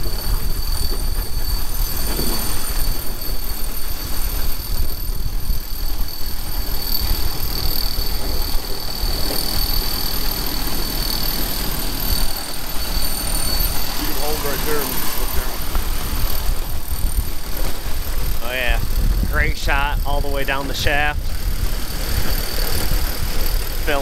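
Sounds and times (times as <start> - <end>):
heavy machinery running: 0.0 - 24.0
high-pitched whine: 0.0 - 24.0
wind buffeting microphone: 0.0 - 24.0.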